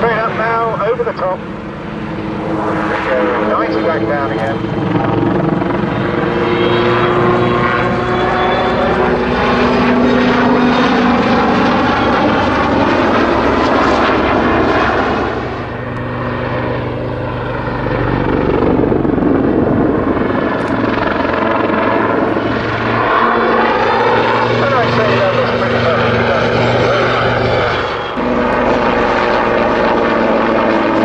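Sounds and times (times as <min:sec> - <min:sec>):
helicopter rotor and engines: 0:00.0 - 0:31.0.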